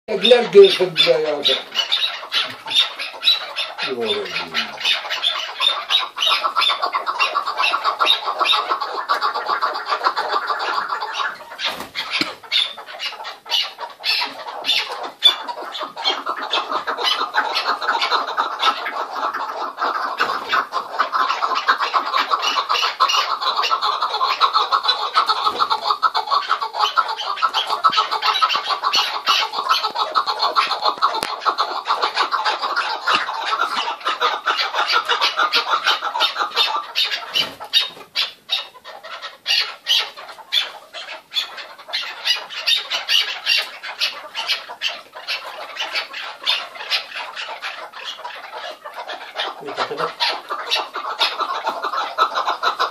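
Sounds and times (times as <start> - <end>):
partridges chattering calls: 0.1 - 52.9.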